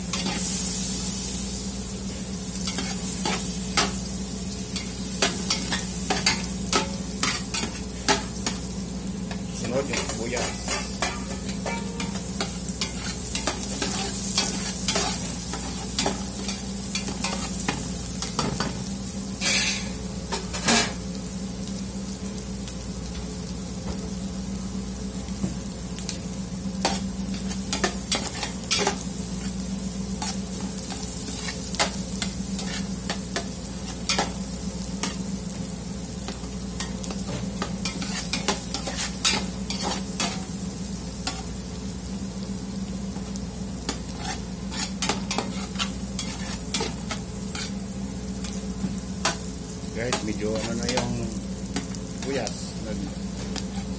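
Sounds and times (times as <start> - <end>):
garlic and onion sizzling in butter: 0.0 - 53.9
steady low hum: 0.0 - 53.9.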